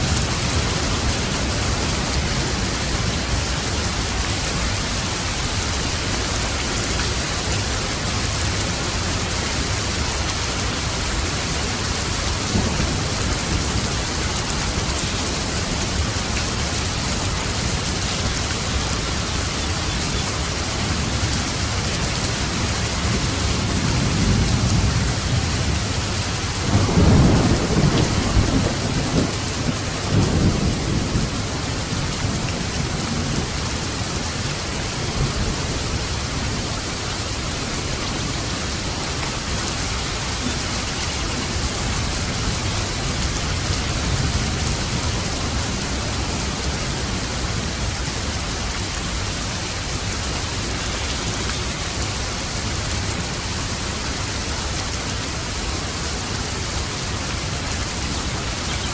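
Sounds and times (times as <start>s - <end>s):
thunder rumbling: 0.0s - 19.6s, 20.2s - 50.6s
steady rain: 0.0s - 58.9s.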